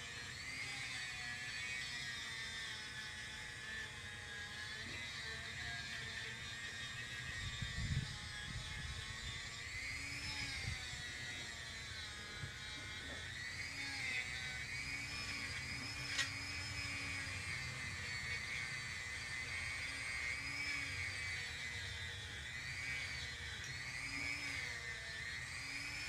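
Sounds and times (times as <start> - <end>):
rotary sanding tool whining: 0.0 - 26.0.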